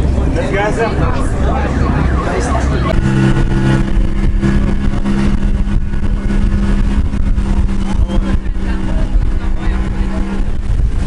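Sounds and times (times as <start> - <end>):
boat engine running: 0.0 - 11.0
water rushing: 0.0 - 11.0
wind rushing: 0.0 - 11.0.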